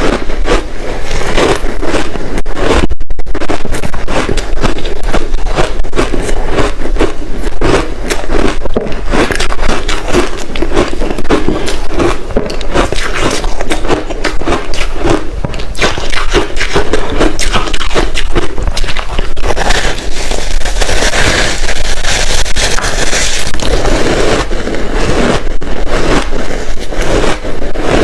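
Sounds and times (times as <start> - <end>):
ice being chewed: 0.0 - 28.0.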